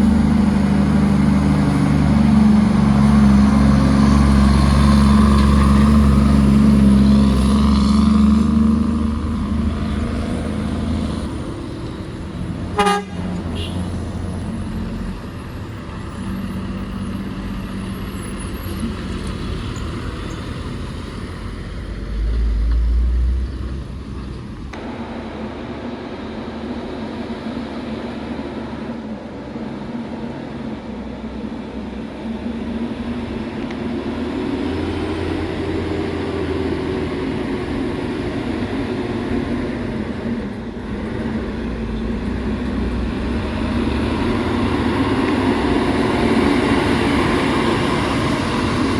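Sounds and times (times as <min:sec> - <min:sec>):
heavy truck engines under load: 0:00.0 - 0:48.9.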